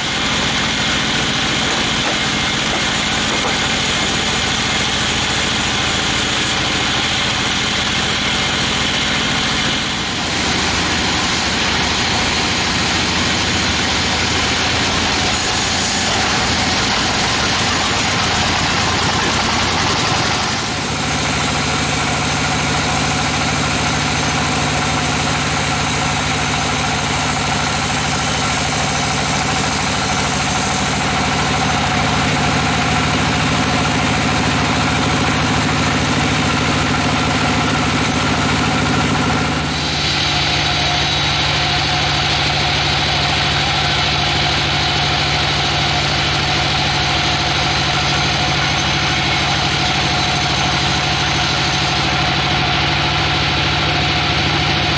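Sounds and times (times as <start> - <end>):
bandsaw machinery running: 0.0 - 54.9.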